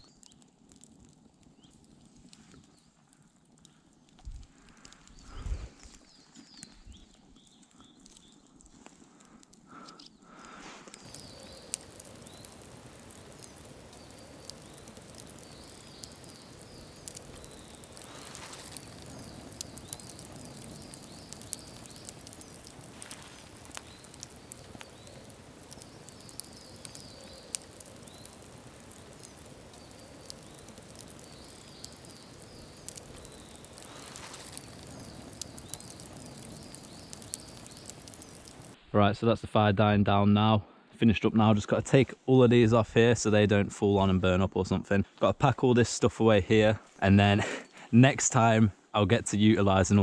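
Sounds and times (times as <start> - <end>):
campfire crackling: 0.0 - 39.0, 41.4 - 50.0.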